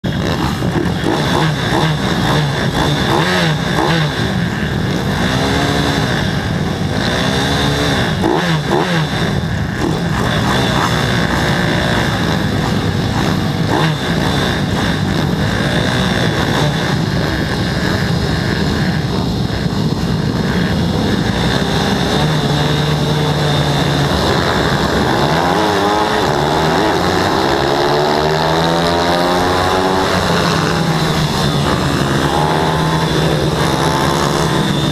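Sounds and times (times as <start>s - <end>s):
pit bike engines revving: 0.0s - 34.9s.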